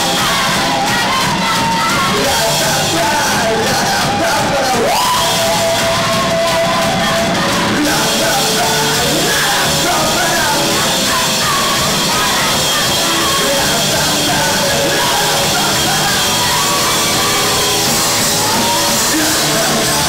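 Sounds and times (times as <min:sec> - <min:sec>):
live rock band playing: 0:00.0 - 0:20.0
man singing into microphone: 0:00.0 - 0:20.0.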